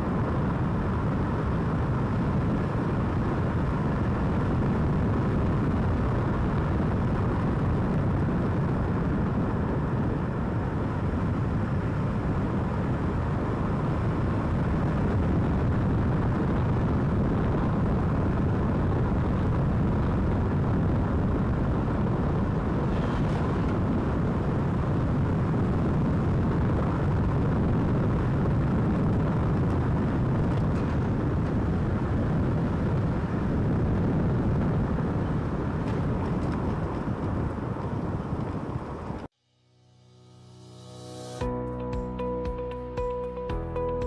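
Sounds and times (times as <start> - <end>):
car road noise: 0.0 - 39.3
wind buffeting microphone: 0.0 - 39.3.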